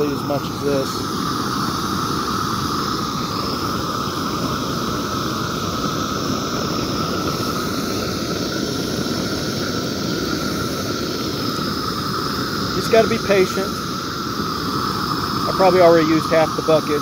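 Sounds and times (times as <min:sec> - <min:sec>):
propane torch rushing: 0:00.0 - 0:17.0.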